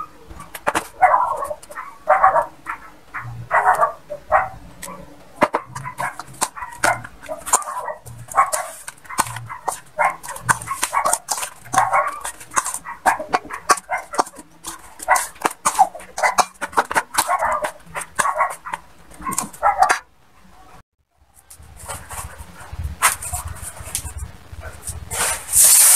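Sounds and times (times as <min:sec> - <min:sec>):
dog barking: 0:00.0 - 0:20.8, 0:21.8 - 0:25.3.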